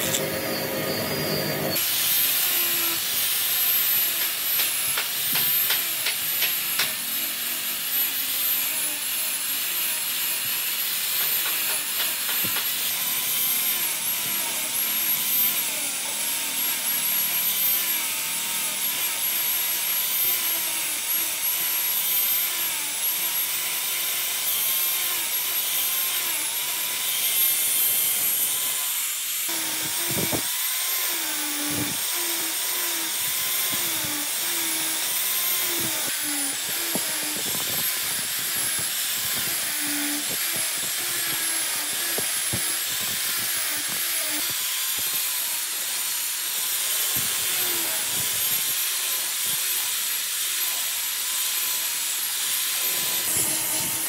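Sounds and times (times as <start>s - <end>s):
angle grinder sanding wood: 0.0s - 54.0s.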